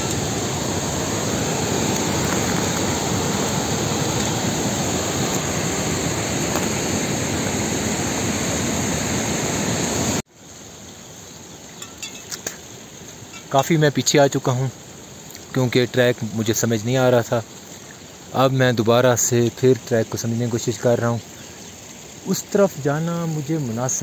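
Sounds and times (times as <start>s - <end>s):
mountain stream rushing: 0.0s - 24.0s.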